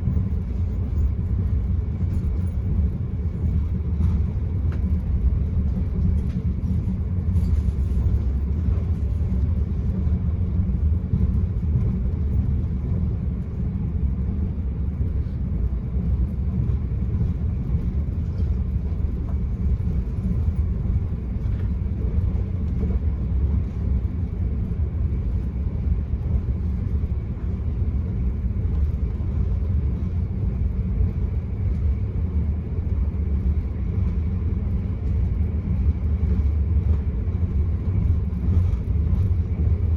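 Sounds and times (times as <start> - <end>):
train rumbling on rails: 0.0 - 39.9.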